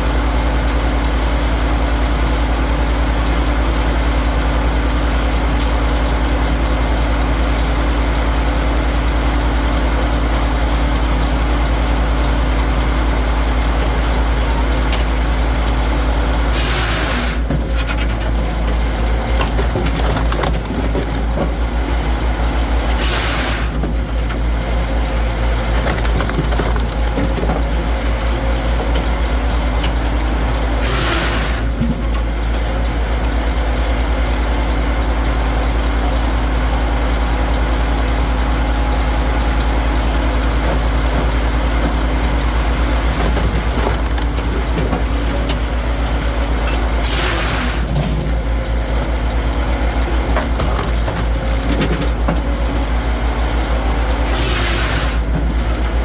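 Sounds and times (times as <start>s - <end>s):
firewood processor engine running: 0.0s - 56.0s.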